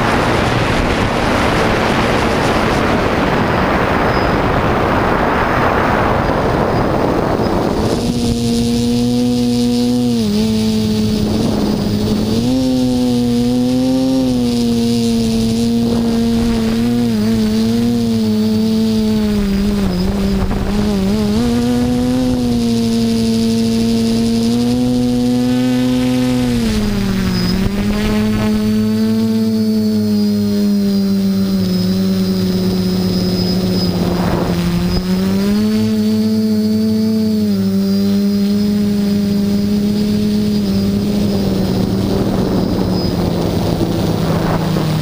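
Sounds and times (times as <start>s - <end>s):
quadcopter propellers humming: 0.0s - 45.0s.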